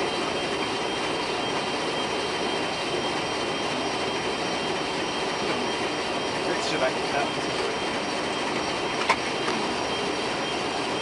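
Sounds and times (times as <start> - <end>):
jet engines rushing in cockpit: 0.0 - 11.0.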